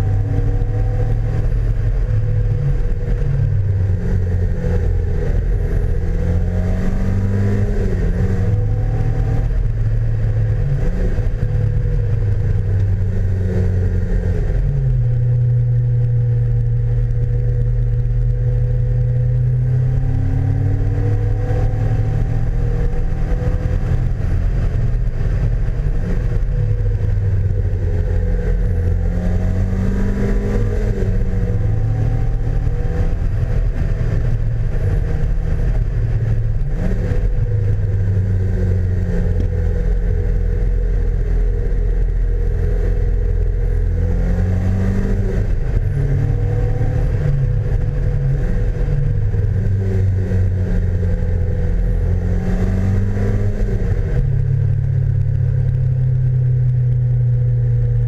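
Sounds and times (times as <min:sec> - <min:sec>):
sports car engine accelerating: 0:00.0 - 0:58.0
wind rumble on camera: 0:00.0 - 0:58.0.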